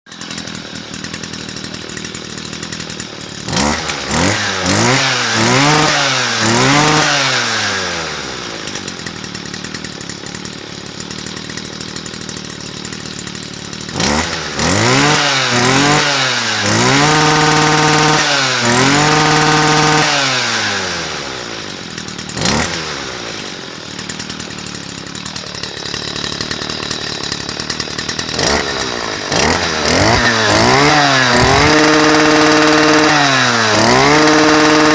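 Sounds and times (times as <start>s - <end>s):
brush cutter engine revving: 0.1s - 34.9s.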